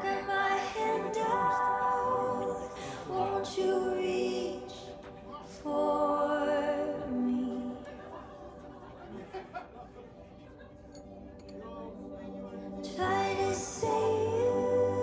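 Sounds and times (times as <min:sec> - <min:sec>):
song with sung vocals: 0:00.0 - 0:09.4, 0:11.0 - 0:15.0.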